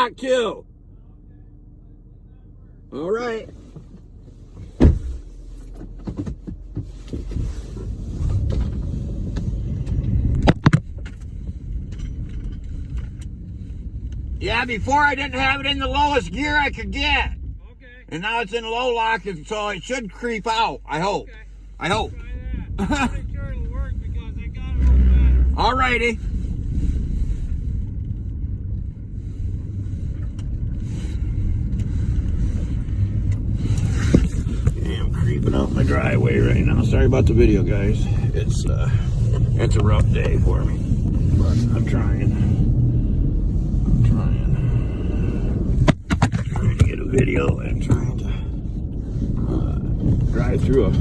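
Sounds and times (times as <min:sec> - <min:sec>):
vehicle engine rumbling in snow: 0:00.0 - 0:51.0.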